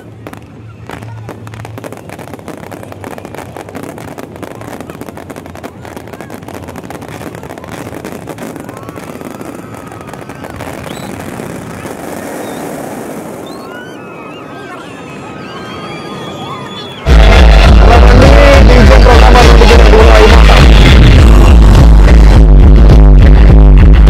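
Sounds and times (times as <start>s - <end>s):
fireworks crackling: 0.0s - 14.0s, 17.0s - 23.8s.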